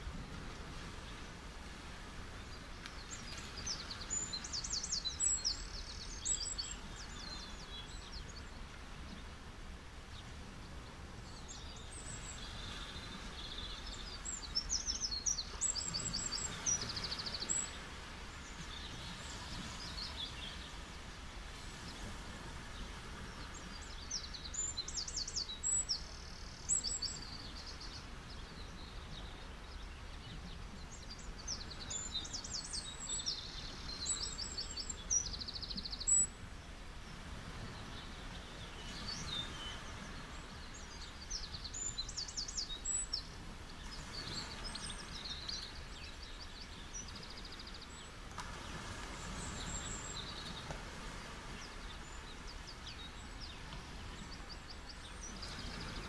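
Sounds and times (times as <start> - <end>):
beach waves: 0.0 - 56.0.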